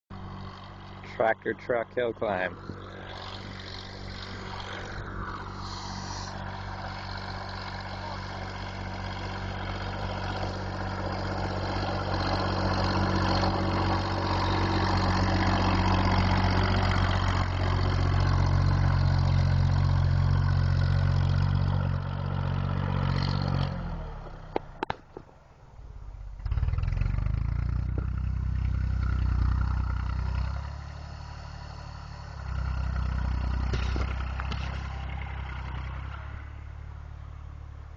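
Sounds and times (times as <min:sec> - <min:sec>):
tractor engine working hard: 0:00.1 - 0:25.0, 0:26.3 - 0:37.6.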